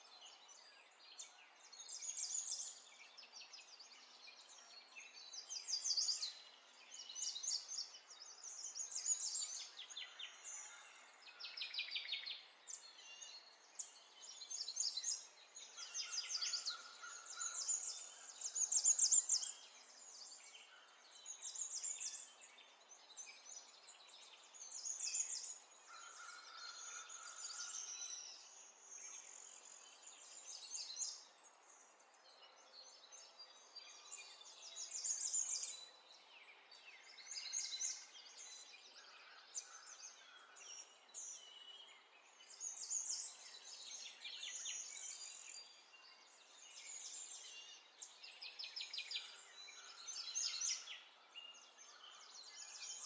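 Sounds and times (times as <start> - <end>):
birds singing trills and chirps: 0.0 - 53.0.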